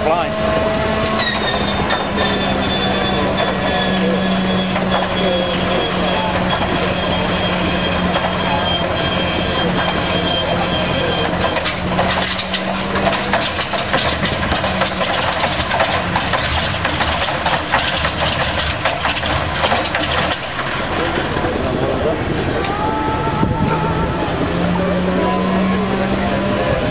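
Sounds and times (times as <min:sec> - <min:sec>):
engine popping: 0:00.0 - 0:22.8
radial aero engine running: 0:00.0 - 0:26.9.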